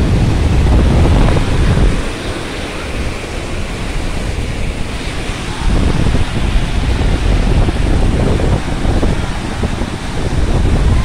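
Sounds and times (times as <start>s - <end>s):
water rushing over a spillway: 0.0s - 11.0s
wind buffeting microphone: 0.0s - 11.0s.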